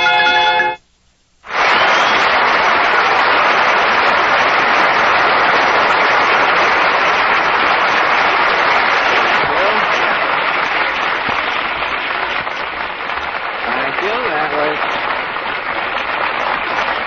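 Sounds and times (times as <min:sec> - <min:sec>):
audience applauding: 0:01.4 - 0:17.0.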